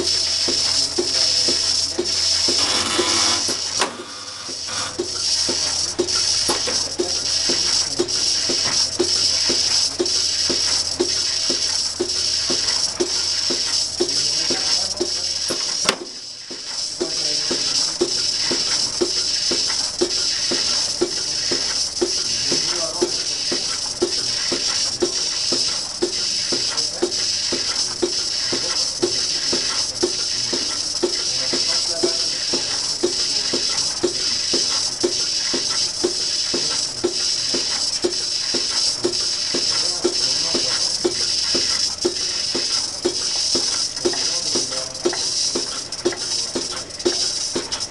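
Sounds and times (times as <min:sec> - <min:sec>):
milking machine pulsation: 0:00.0 - 0:47.9
vacuum air hiss: 0:00.0 - 0:47.9.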